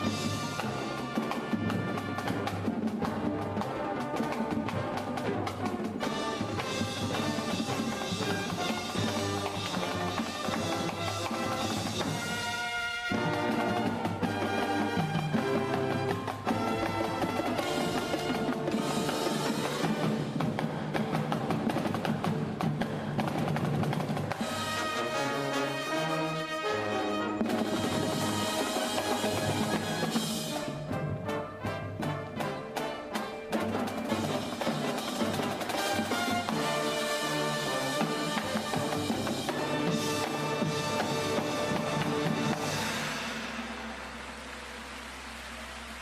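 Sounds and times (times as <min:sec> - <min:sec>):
brass and wind notes: 0:00.0 - 0:22.2, 0:23.6 - 0:46.0
drum and percussion strokes: 0:00.0 - 0:25.1, 0:27.4 - 0:46.0
marching band playing: 0:00.0 - 0:46.0.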